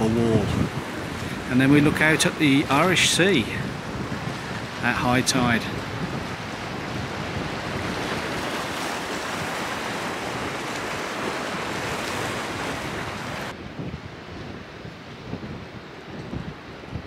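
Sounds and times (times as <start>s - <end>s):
sea surf washing against rocks: 0.0s - 17.0s
wind rumbling on the microphone: 0.0s - 17.0s.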